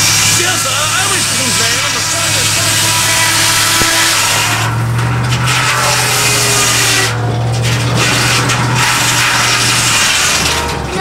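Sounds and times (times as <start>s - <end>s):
circular saw blade cutting log: 0.0s - 11.0s
engine humming: 0.0s - 11.0s.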